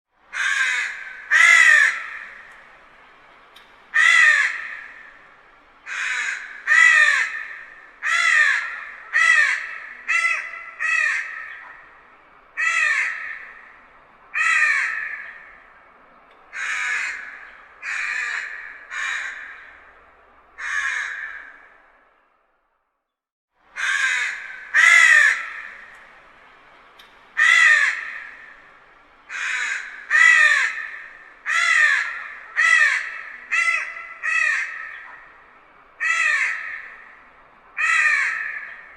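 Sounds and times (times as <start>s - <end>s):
crow cawing: 0.3s - 2.7s, 3.9s - 15.9s, 16.5s - 22.0s, 23.8s - 26.0s, 27.4s - 28.7s, 29.3s - 38.9s.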